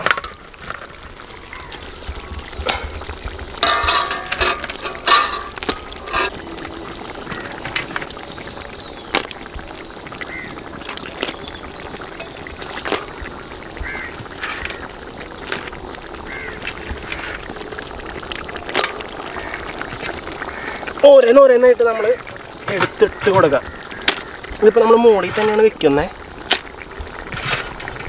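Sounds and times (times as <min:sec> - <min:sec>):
gravy simmering with pops: 0:00.0 - 0:28.0
faint distant calls: 0:01.0 - 0:17.8, 0:18.5 - 0:26.2.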